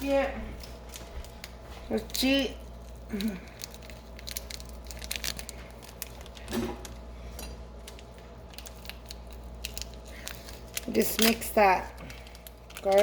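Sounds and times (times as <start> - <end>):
seasoning packet crinkling: 0.6 - 7.1, 7.8 - 13.0.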